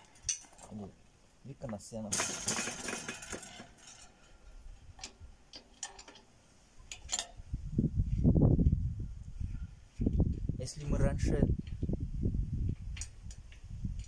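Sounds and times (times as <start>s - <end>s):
rustle: 0.0s - 14.0s.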